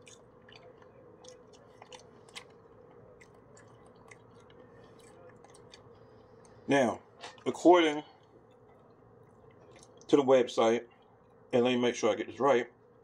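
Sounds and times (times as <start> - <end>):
faint chewing: 0.0 - 10.2, 10.8 - 11.5
faint hum: 0.0 - 13.0.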